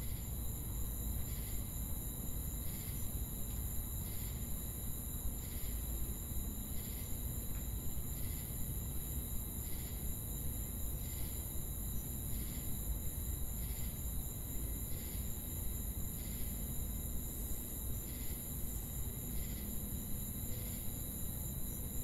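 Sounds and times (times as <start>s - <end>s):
high insect chorus: 0.0s - 22.0s.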